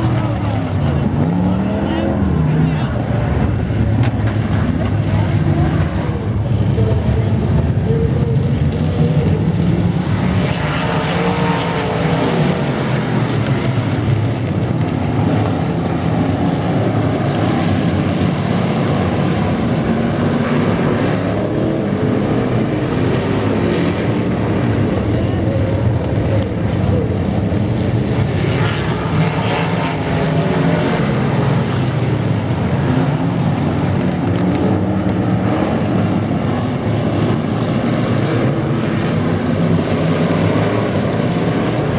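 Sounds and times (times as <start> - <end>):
race car engines revving: 0.0 - 41.9.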